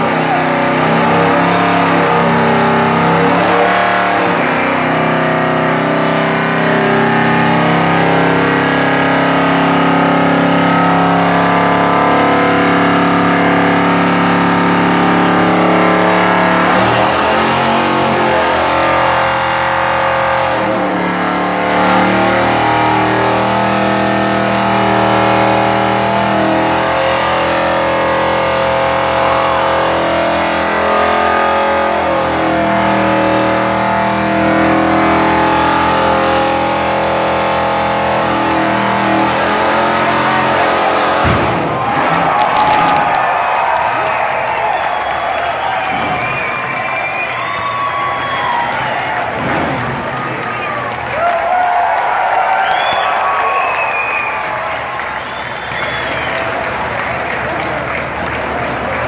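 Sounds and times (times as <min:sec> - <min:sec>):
car engine revving high: 0:00.0 - 0:59.0
tires spinning: 0:00.0 - 0:59.0.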